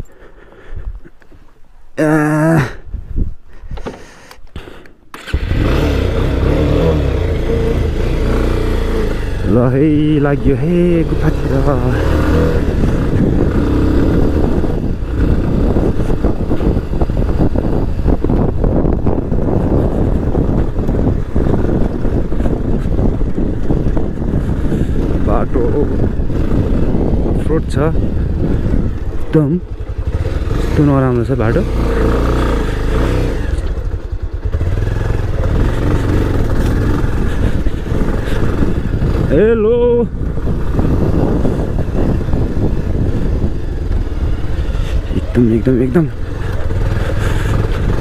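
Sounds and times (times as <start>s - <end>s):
wind buffeting microphone: 2.8s - 3.9s, 5.2s - 48.0s
motorcycle running: 4.6s - 48.0s.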